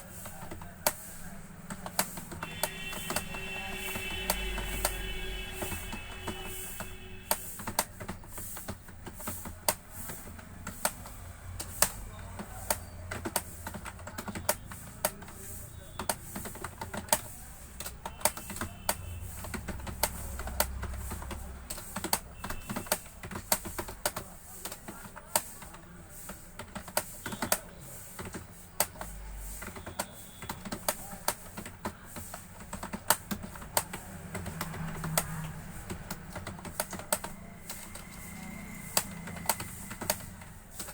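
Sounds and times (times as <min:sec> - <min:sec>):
keyboard keystroke clicks: 0:00.0 - 0:40.9.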